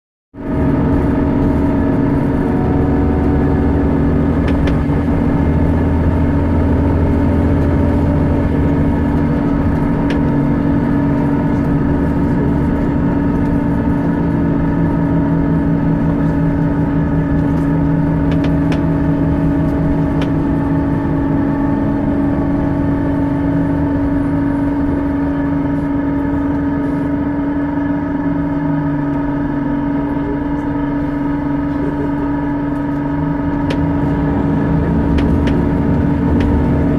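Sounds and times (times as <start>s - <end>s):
bus engine drone: 0.4s - 36.9s
bus whine: 0.4s - 36.9s.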